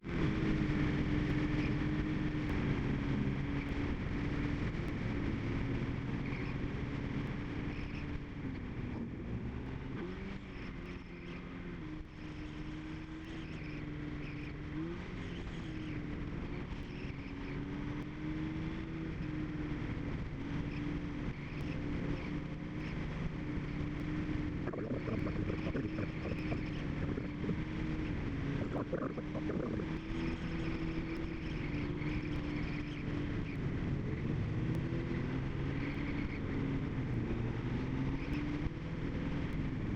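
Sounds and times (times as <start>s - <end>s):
car engine cruising: 0.0s - 39.9s
road and wind noise: 0.0s - 39.9s.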